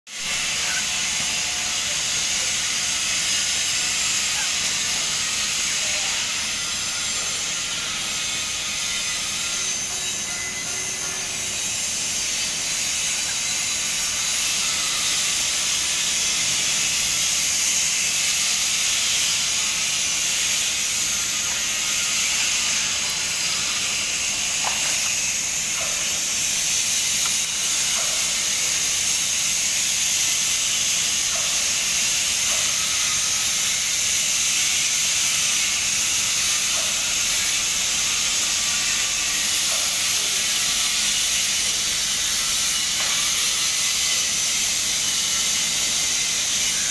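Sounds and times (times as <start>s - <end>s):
welding arc hissing and crackling: 0.1s - 46.9s.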